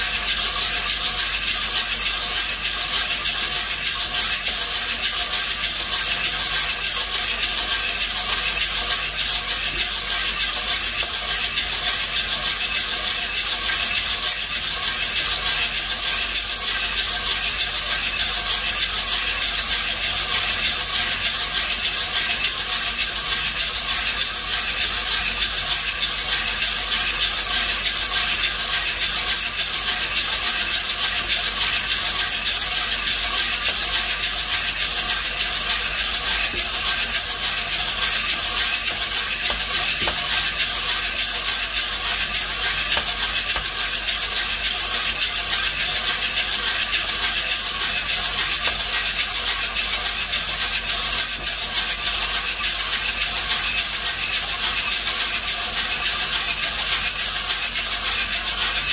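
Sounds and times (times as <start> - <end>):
coffee beans rattling in metal drum: 0.0 - 58.9.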